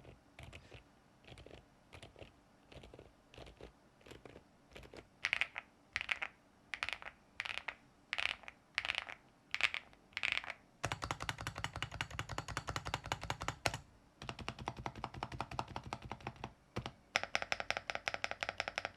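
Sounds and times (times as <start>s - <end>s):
mechanical keyboard typing: 0.0s - 18.9s.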